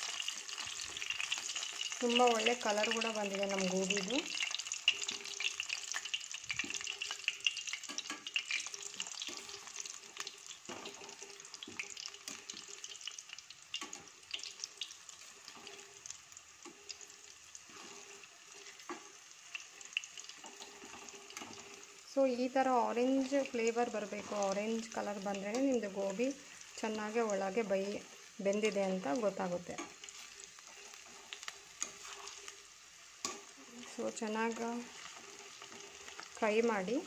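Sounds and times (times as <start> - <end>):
fritters sizzling in hot oil: 0.0 - 37.0.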